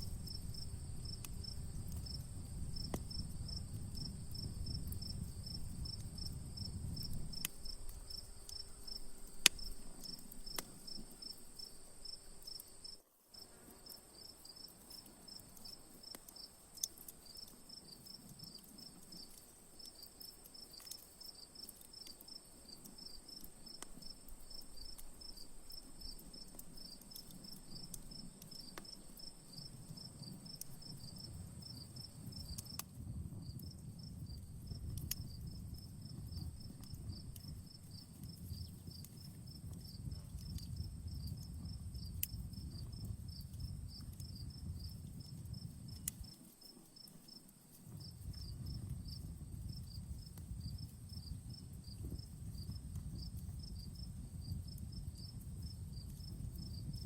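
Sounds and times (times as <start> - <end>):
campfire crackling and popping: 0.0 - 57.0
crickets chirping: 0.0 - 57.0
high insect hum: 0.0 - 57.0.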